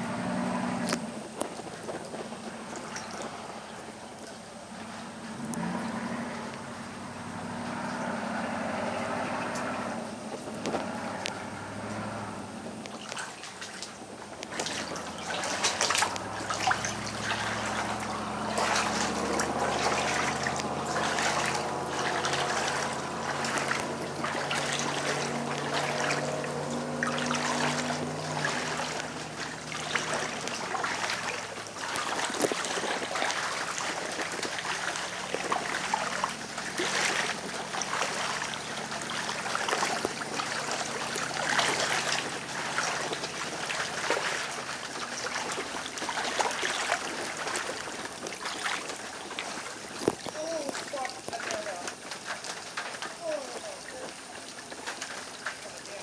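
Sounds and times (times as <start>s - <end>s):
steady low hum: 0.0s - 49.8s
floodwater running and trickling: 0.0s - 56.0s.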